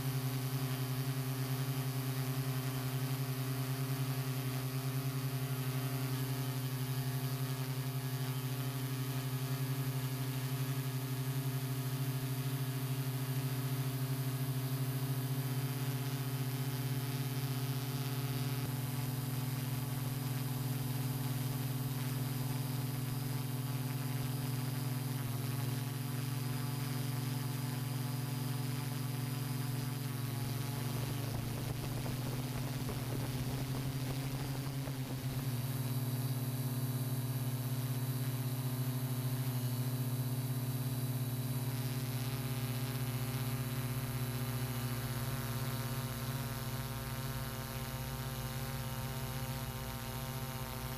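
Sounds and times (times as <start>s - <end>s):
drone motors humming: 0.0s - 50.9s.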